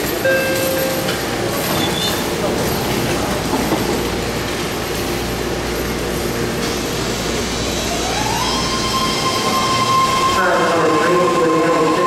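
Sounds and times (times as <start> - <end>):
train equipment hum and rumble: 0.0 - 12.0
train rising whine: 0.0 - 12.0.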